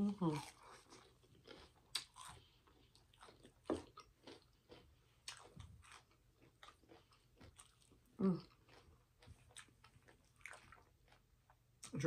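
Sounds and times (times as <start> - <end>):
person chewing crispy chicken: 0.0 - 12.0.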